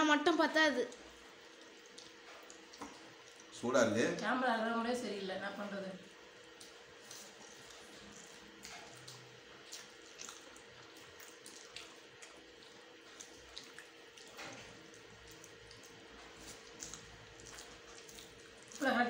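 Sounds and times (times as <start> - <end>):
people chewing and lip smacking: 0.9 - 3.6, 6.2 - 19.0.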